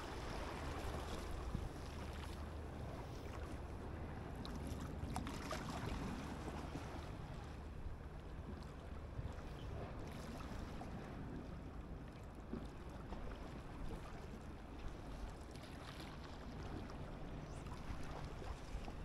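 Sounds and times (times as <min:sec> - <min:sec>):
distant boat engine hum: 0:00.0 - 0:19.0.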